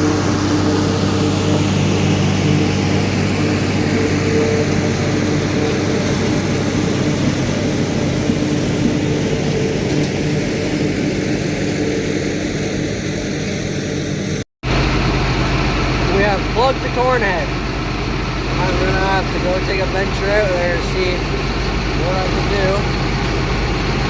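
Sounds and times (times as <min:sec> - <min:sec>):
tractor engine drone: 0:00.0 - 0:24.0.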